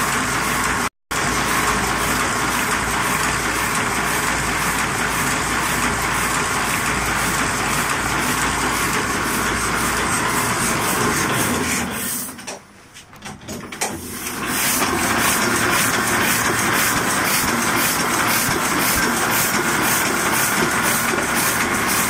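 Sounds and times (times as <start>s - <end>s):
printing press running: 0.0s - 22.0s.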